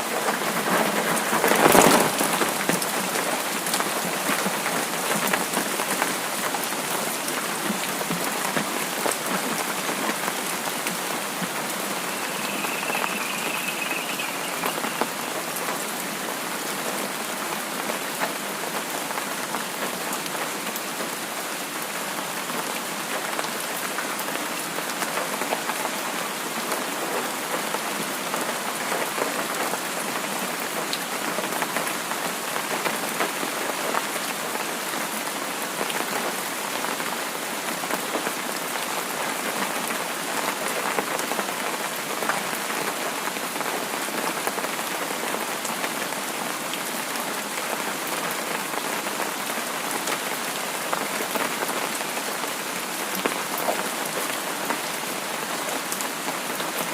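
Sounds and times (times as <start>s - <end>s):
steady rain patter: 0.0s - 56.9s.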